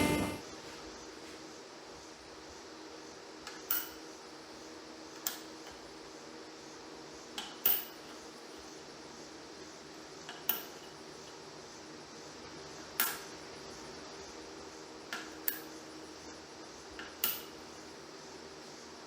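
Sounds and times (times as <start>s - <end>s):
faint machine hum: 0.0s - 19.0s.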